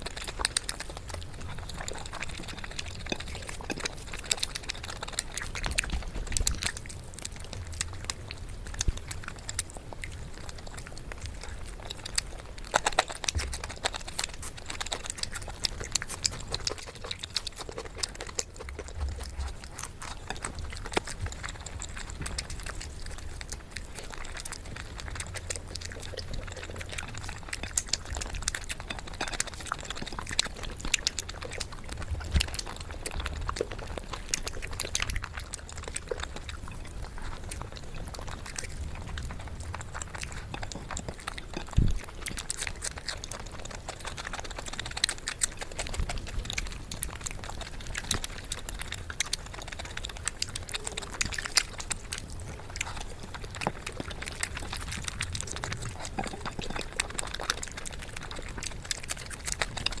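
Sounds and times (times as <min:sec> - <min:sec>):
chewing and lip smacking: 0:00.0 - 1:00.0.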